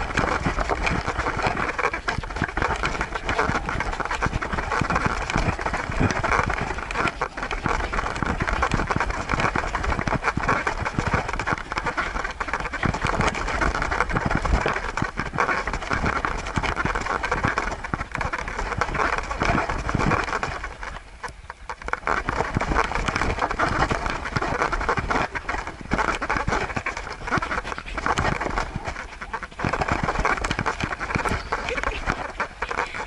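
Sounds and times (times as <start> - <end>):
fur rubbing against camera: 0.0 - 21.0, 21.8 - 33.0.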